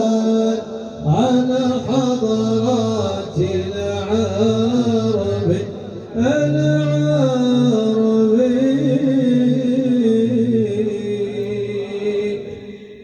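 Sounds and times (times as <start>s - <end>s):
voices chanting devotional song: 0.0s - 13.0s.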